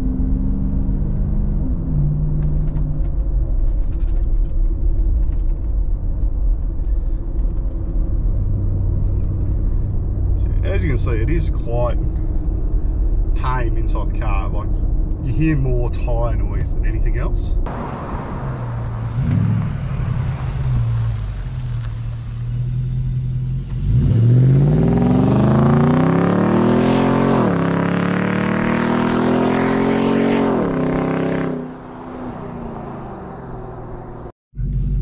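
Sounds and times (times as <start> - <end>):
car engine idling and accelerating: 0.0 - 35.0.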